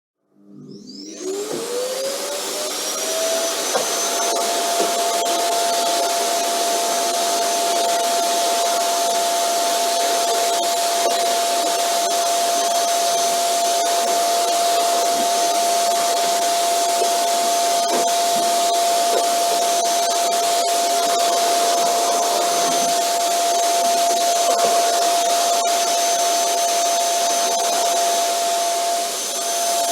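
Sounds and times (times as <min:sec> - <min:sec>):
vacuum cleaner motor whine: 0:00.4 - 0:29.9.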